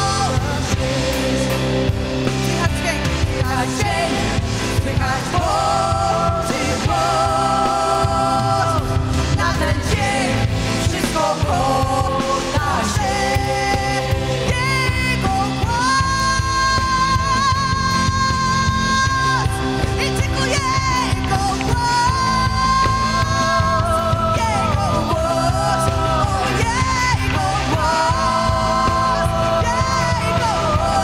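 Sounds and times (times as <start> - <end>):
drums: 0.0 - 31.0
electric bass: 0.0 - 31.0
stage keyboard: 0.0 - 31.0
women singing: 0.0 - 31.0.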